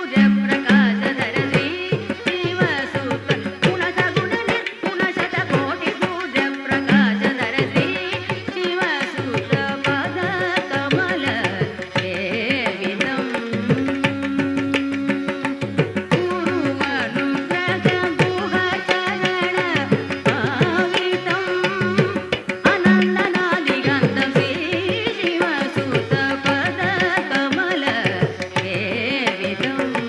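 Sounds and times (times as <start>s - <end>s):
tabla strokes: 0.0s - 30.0s.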